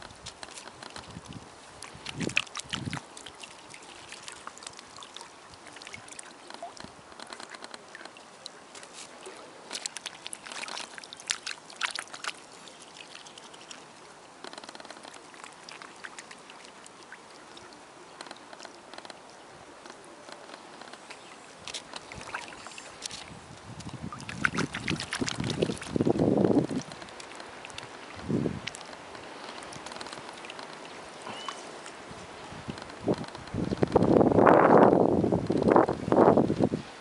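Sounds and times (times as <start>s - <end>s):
swans splashing in water: 0.0s - 33.1s.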